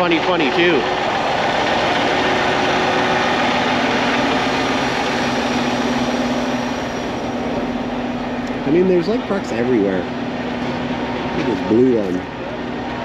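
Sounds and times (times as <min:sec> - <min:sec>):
engine idling: 0:00.0 - 0:13.0
steady hum: 0:00.0 - 0:13.0.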